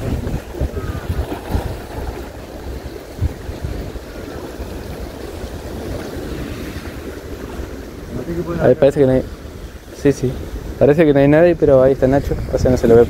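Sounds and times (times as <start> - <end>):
river water washing against shore: 0.0 - 13.0
wind buffeting microphone: 0.0 - 13.0.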